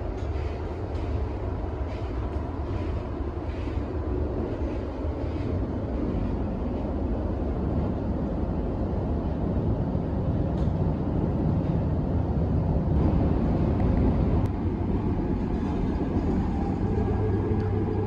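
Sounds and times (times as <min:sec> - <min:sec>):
train carriage low rumble: 0:00.0 - 0:18.0.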